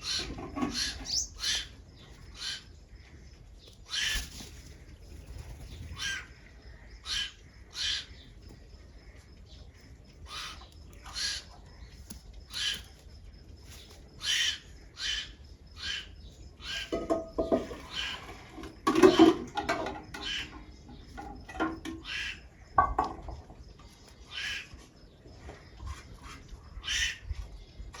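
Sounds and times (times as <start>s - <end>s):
birds chirping: 0.0s - 28.0s
harsh bird calls: 0.0s - 28.0s.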